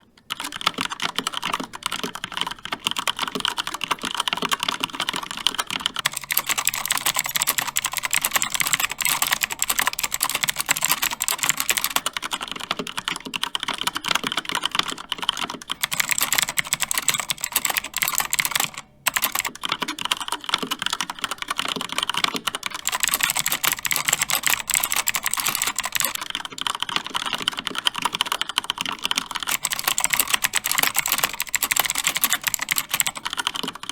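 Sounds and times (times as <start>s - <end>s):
fast typing on mechanical keyboards: 0.0s - 33.9s.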